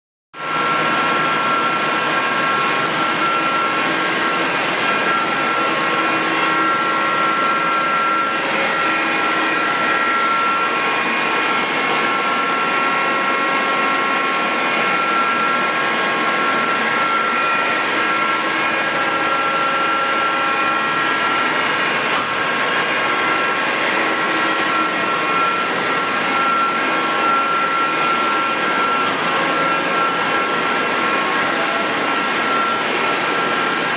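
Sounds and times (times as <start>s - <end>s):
lathe machine whine: 0.4s - 33.9s.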